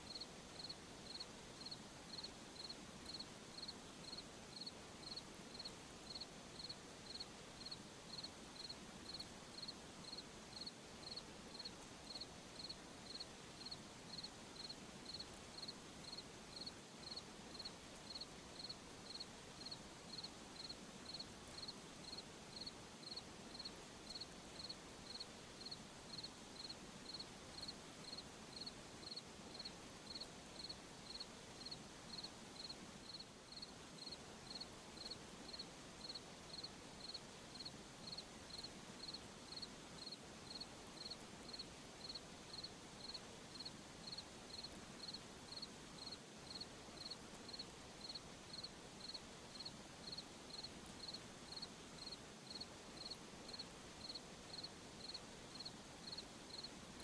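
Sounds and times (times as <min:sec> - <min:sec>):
soft night hiss: 0:00.0 - 0:57.0
cricket chirping: 0:00.1 - 0:56.7.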